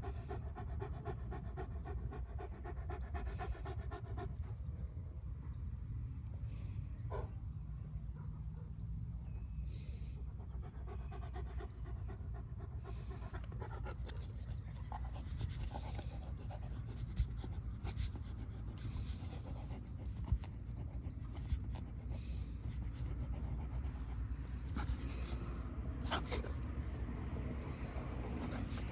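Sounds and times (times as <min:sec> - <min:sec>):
dog panting: 0:00.0 - 0:05.0, 0:10.2 - 0:28.9.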